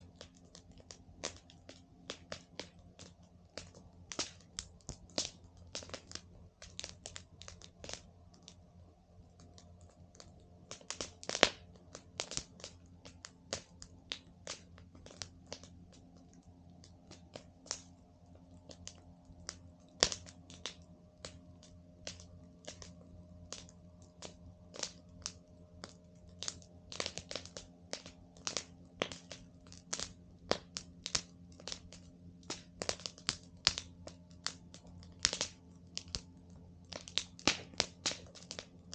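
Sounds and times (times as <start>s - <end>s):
campfire crackling: 0.0s - 38.9s
loud pops from fire: 0.1s - 8.5s, 9.4s - 18.0s, 18.6s - 38.9s.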